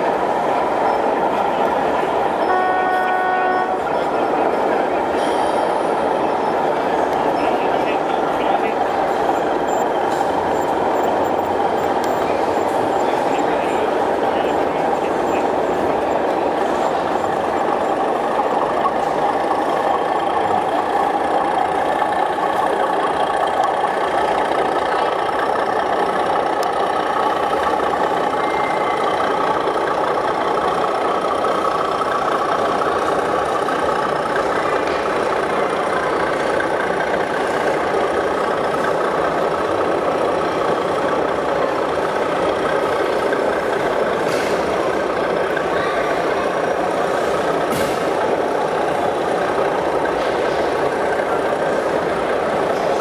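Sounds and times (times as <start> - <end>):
model diesel engine idling: 0.0 - 53.0.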